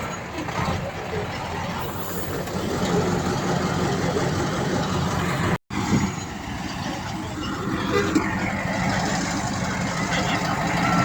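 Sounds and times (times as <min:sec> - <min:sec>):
diesel earthmoving machinery running: 0:00.0 - 0:11.0.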